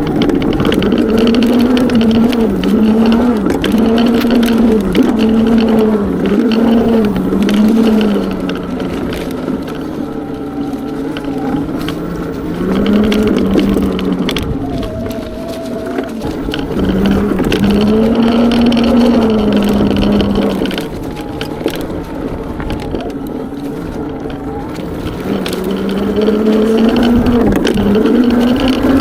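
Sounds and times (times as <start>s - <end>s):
electric motor whining: 0.0s - 29.0s
scattered clicks: 0.0s - 29.0s
tyre and trail noise: 0.0s - 29.0s.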